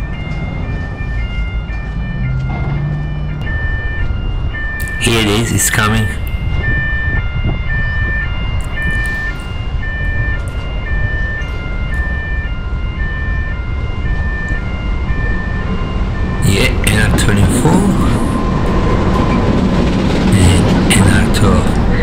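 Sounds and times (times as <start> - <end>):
crossing alarm two-tone chime: 0.0 - 22.0
diesel locomotive rumble: 0.0 - 22.0.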